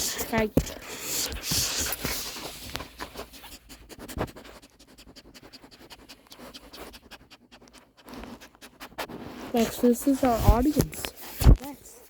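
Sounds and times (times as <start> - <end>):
dog scratching and rustling: 0.0 - 11.6.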